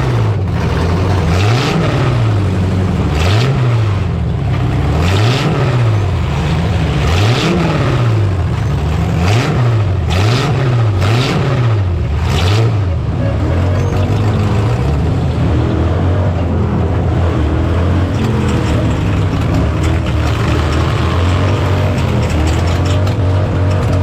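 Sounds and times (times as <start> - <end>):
truck engine revving: 0.0 - 24.0
trucks colliding bangs: 0.0 - 24.0.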